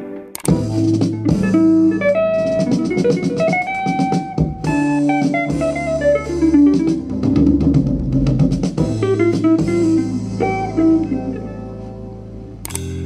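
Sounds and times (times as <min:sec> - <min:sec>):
guitar music with drums: 0:00.0 - 0:13.0.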